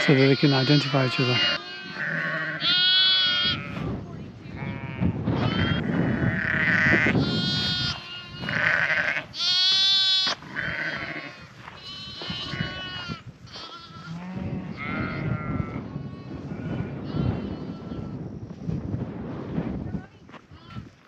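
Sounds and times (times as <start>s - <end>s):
sheep and lambs bleating: 0.0s - 3.9s, 4.5s - 18.2s, 20.5s - 21.0s.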